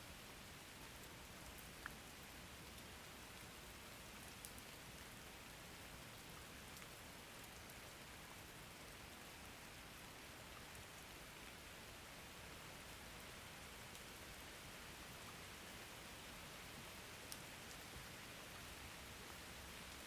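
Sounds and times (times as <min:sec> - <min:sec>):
faint steady rain: 0:00.0 - 0:20.0.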